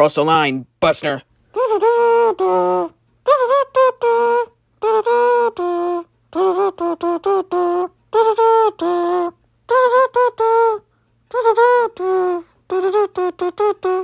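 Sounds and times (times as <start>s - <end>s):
high voice humming: 1.5s - 14.0s.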